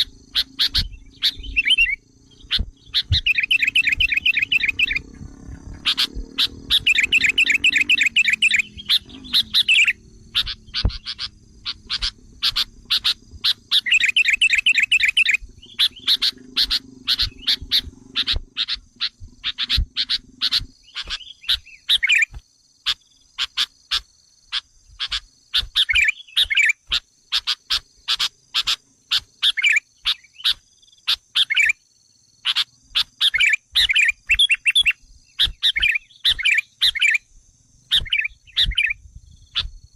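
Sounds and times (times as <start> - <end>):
bird chattering trills: 0.0 - 31.8, 32.4 - 37.2, 37.9 - 39.9
bird sharp chirps: 0.0 - 31.8, 32.4 - 37.3, 37.9 - 39.9.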